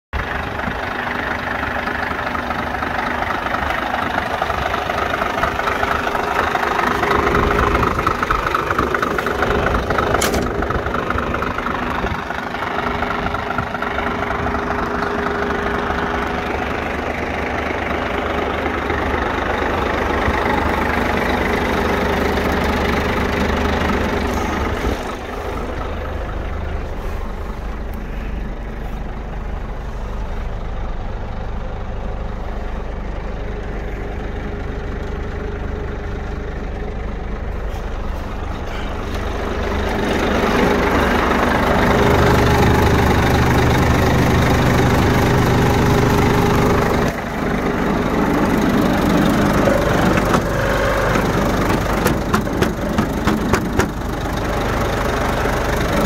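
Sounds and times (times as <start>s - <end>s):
diesel truck engine idling: 0.1s - 56.0s.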